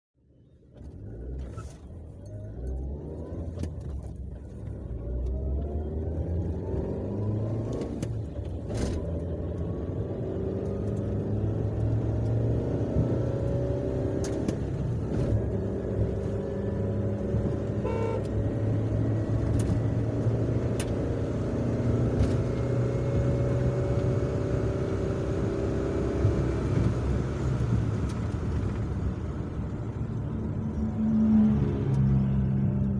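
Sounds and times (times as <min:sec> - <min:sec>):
road and tyre noise: 0:00.2 - 0:32.9
car engine accelerating: 0:00.6 - 0:32.9.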